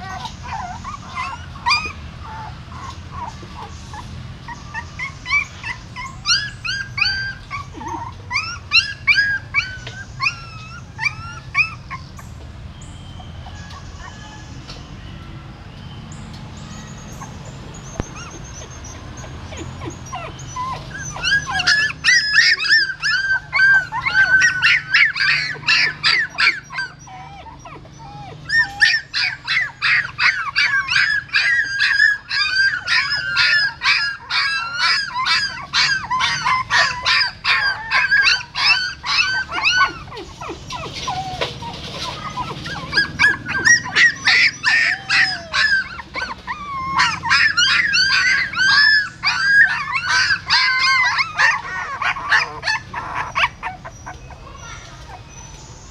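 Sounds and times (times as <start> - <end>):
puppies squealing: 0.0 - 55.9.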